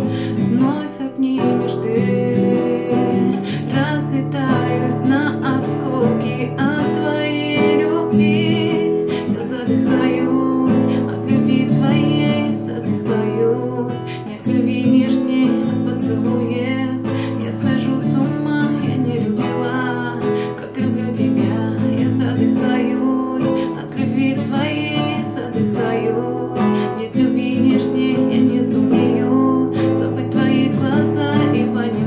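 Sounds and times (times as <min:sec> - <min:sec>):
strummed acoustic guitar song: 0:00.0 - 0:32.0.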